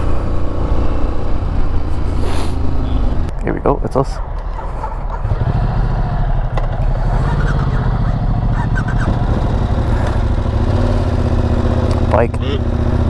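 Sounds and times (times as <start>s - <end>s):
motorcycle engine running: 0.0s - 3.3s, 4.9s - 13.0s.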